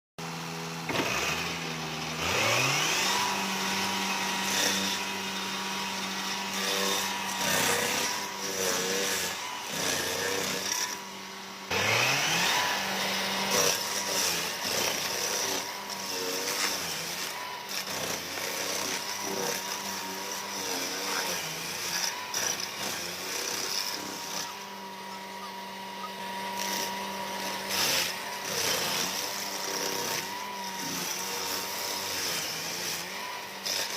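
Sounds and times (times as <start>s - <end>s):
stump grinder engine revving: 0.2s - 33.9s.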